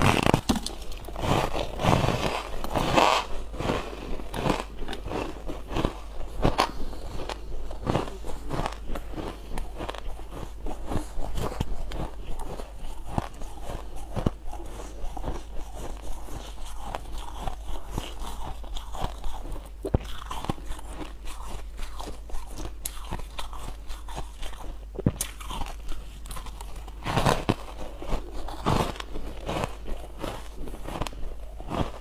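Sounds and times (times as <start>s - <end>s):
person chewing ice: 0.0s - 32.0s.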